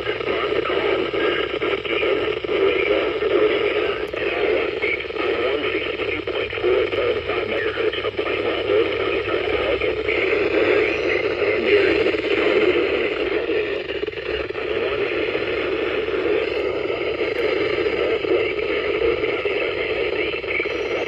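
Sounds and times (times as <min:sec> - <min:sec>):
muffled fluttering broadcast: 0:00.0 - 0:21.0
tinny radio static hiss: 0:00.0 - 0:21.0.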